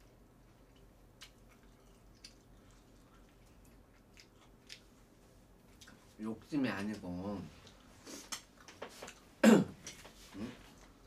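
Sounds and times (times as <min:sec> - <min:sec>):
faint chewing of food: 0:00.0 - 0:11.0.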